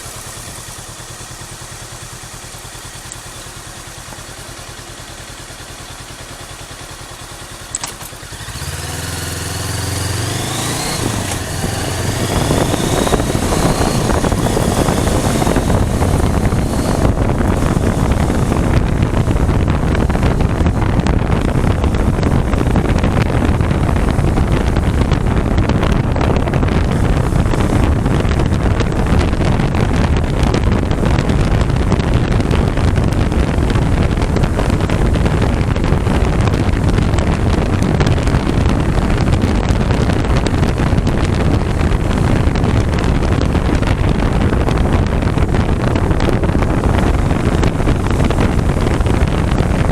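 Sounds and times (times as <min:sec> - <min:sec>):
motorcycle engine: 0:00.0 - 0:49.9
wind buffeting microphone: 0:08.3 - 0:49.9.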